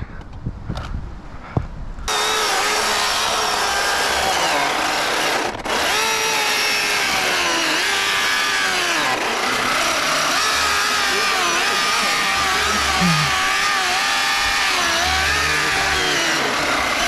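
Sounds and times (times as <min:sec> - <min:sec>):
electric chainsaw cutting wood: 0:02.1 - 0:17.0.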